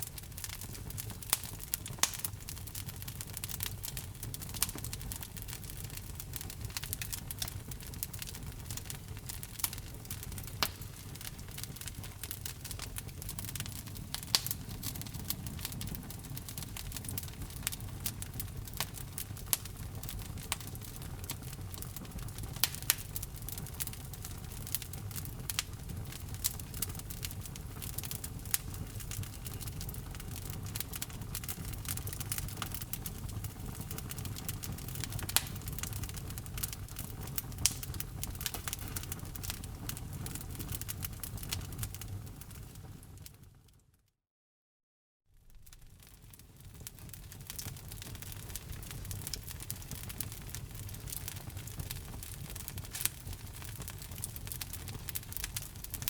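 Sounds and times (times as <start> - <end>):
wood fire crackling: 0.0 - 43.4, 45.4 - 56.0.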